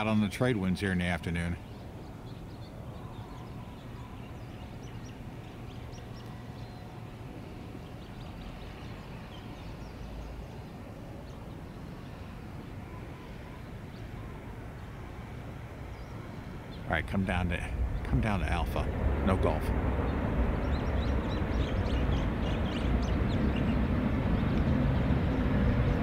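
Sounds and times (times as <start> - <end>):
low outdoor rumble: 0.0 - 26.0
small birds chirping: 0.0 - 26.0.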